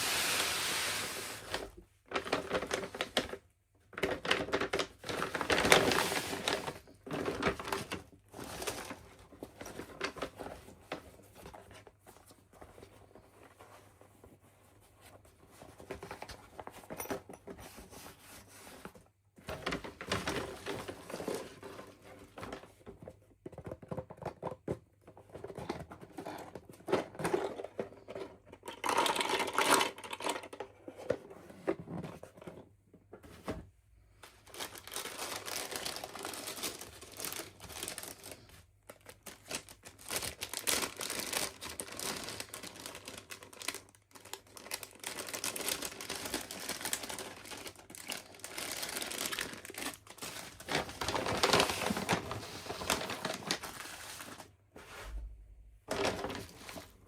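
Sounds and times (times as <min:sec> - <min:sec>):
plastic and paper crinkling: 0:00.0 - 0:24.6, 0:34.2 - 0:57.0.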